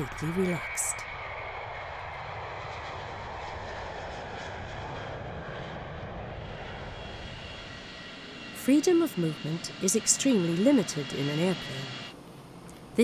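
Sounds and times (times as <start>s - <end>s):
jet engines at take-off power: 0.0s - 13.0s.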